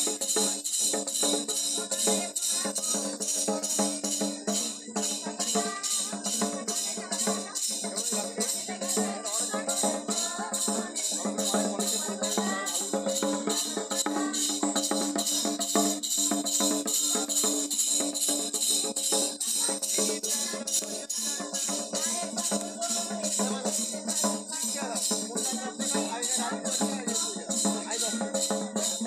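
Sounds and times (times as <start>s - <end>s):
jingling percussion beat: 0.0s - 29.0s.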